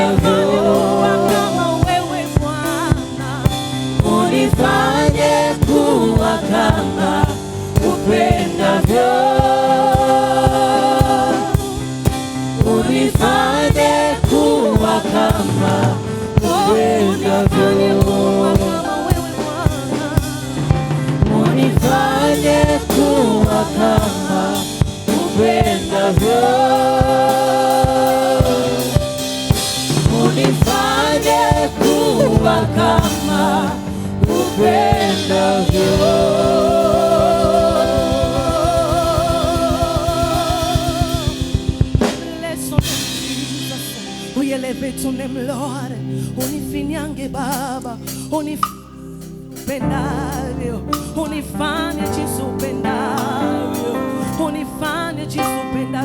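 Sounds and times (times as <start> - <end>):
band with drums and bass: 0.0 - 46.9
voices singing gospel song: 0.0 - 56.0.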